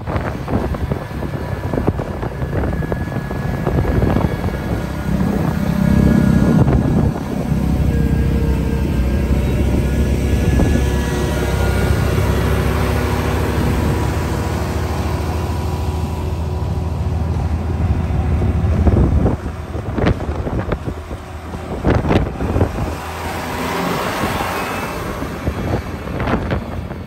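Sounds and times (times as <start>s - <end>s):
machinery engine running: 0.0s - 27.0s
wind on microphone: 0.0s - 27.0s.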